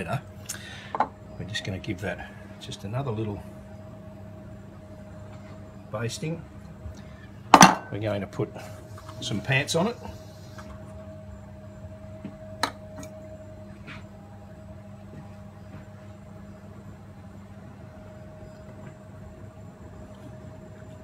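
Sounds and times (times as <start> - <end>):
kitchen appliance hum: 0.0 - 21.0.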